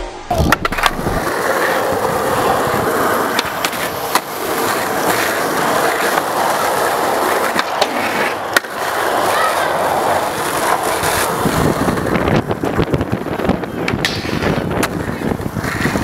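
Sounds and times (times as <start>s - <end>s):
skateboard clacks: 0.3s - 16.0s
skateboard wheels rolling on asphalt: 0.3s - 16.0s.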